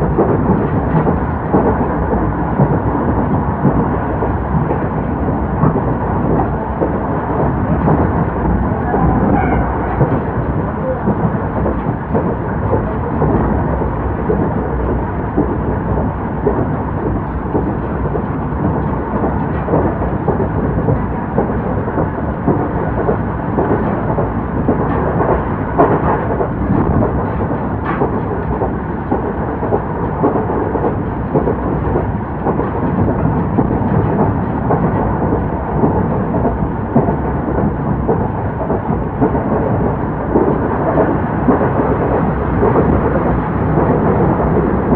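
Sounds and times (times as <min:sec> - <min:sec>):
train wheels rumbling on track: 0:00.0 - 0:44.9.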